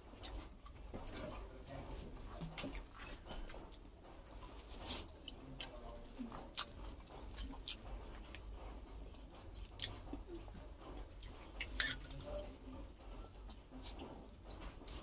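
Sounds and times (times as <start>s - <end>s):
person chewing with wet smacks: 0.0s - 15.0s.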